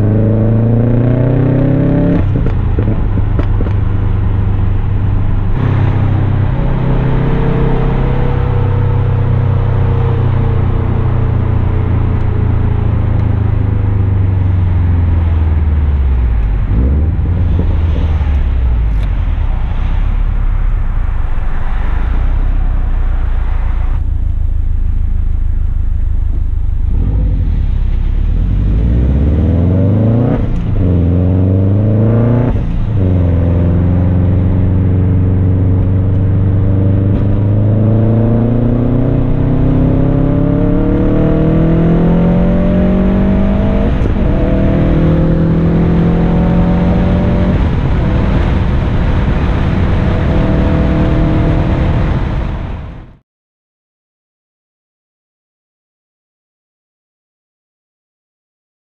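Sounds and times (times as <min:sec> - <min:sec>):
car engine revving: 0:00.0 - 0:53.2.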